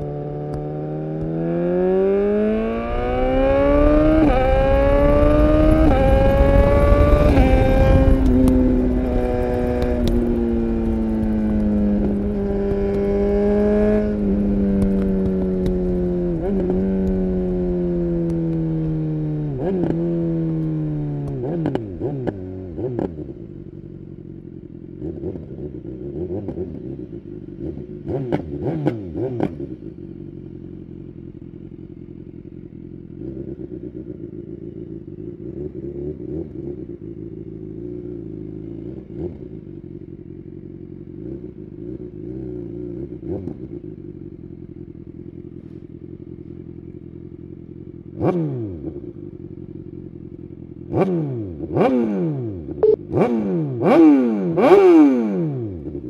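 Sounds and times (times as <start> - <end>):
motorcycle throttle blips: 0.0 - 56.0
motorcycle engine idling: 2.7 - 21.5, 22.5 - 28.6, 29.6 - 48.2, 48.8 - 51.8.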